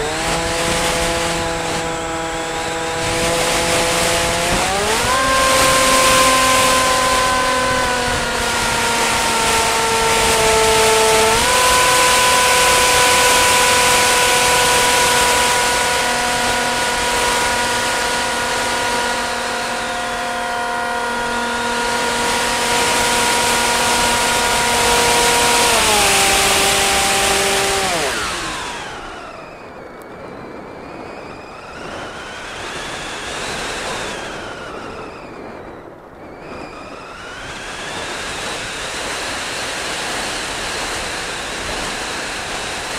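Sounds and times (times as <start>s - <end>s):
model aircraft motor whining: 0.0s - 42.9s.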